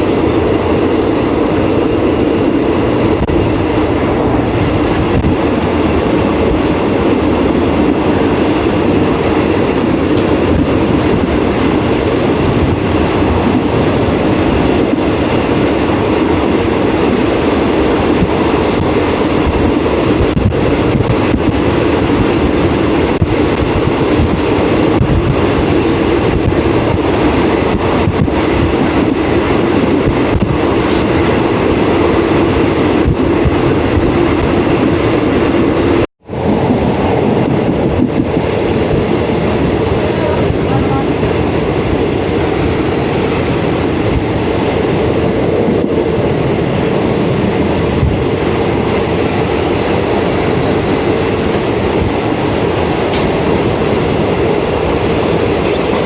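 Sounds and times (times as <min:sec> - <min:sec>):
train rumbling along track: 0:00.0 - 0:56.0.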